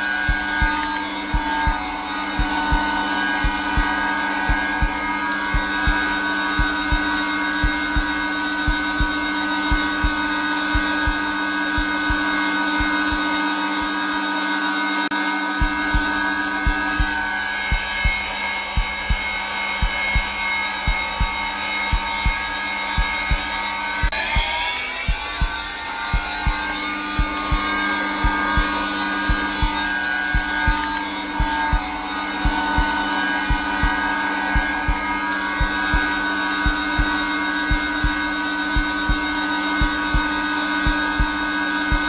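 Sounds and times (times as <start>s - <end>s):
heartbeat double thumps: 0.0s - 14.0s, 15.5s - 42.0s
vacuum cleaner motor whine: 0.0s - 42.0s.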